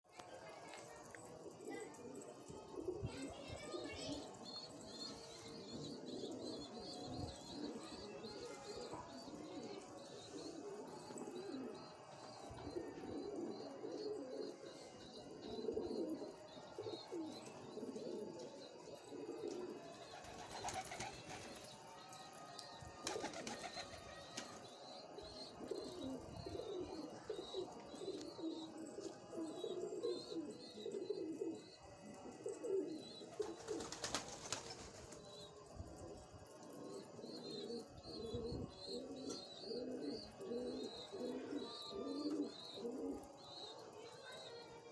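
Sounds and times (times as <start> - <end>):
pigeons cooing: 1.4 - 21.7, 23.0 - 44.8.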